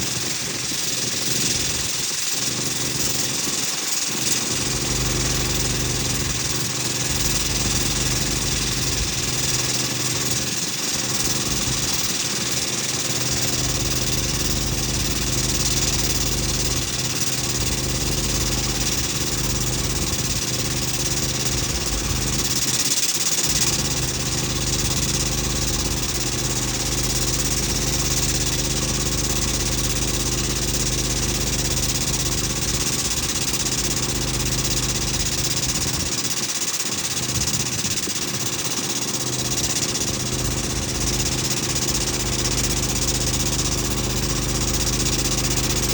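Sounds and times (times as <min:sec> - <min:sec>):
engine idling: 0:04.2 - 0:45.9.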